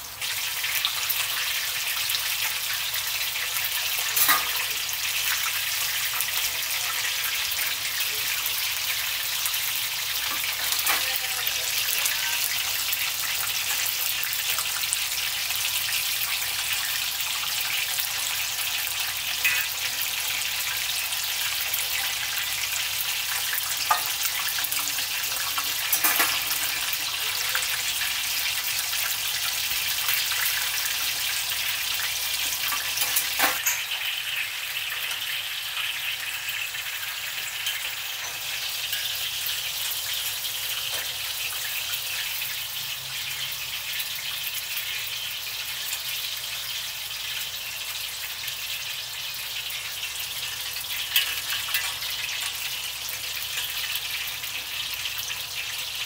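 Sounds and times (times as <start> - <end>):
batter sizzling in hot oil: 0.0 - 56.0.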